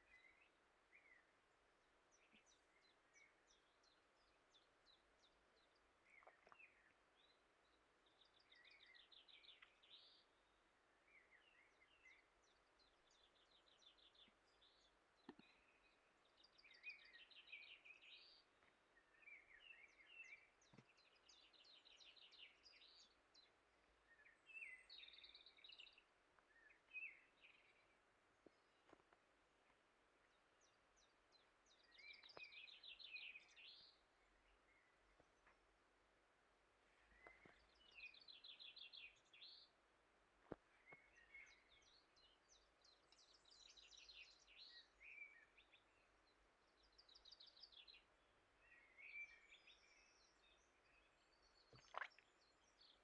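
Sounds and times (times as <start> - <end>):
small songbirds chirping: 0.0 - 53.0.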